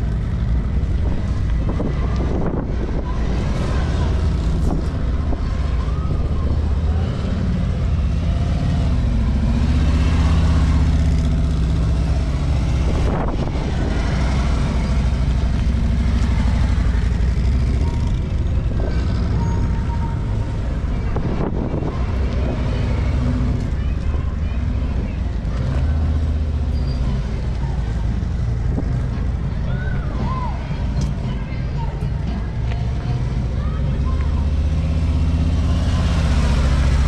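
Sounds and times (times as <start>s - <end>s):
motorcycle engine rumbling: 0.0s - 37.0s.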